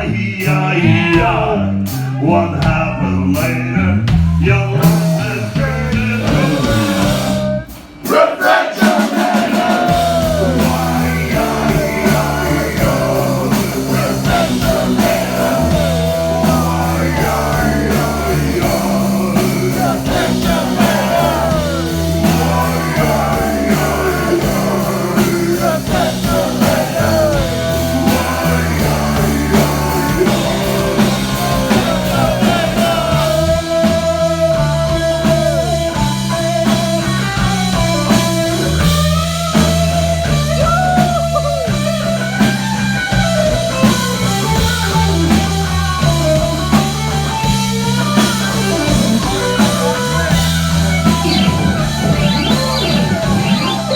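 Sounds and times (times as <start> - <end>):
bass line: 0.0 - 8.2, 8.8 - 53.9
drums: 0.0 - 53.9
electric guitar lead: 9.9 - 53.9.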